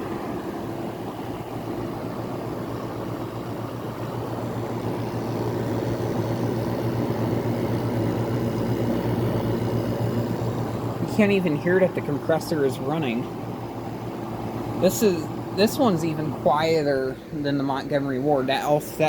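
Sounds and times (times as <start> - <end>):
air conditioner fan blowing: 0.0 - 19.0
compressor low hum: 0.0 - 19.0.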